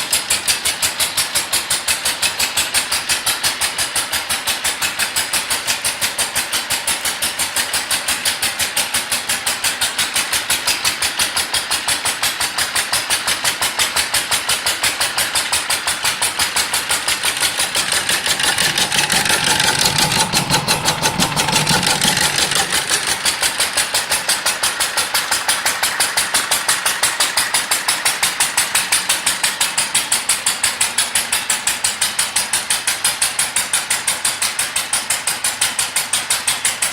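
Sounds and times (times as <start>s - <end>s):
stationary engine exhaust beat: 0.0s - 36.9s.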